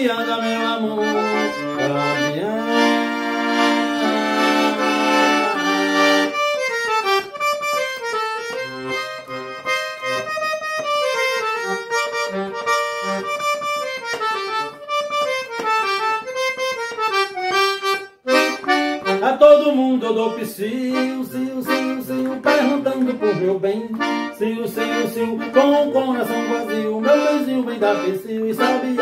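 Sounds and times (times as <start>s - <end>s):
accordion playing: 0.0s - 29.0s.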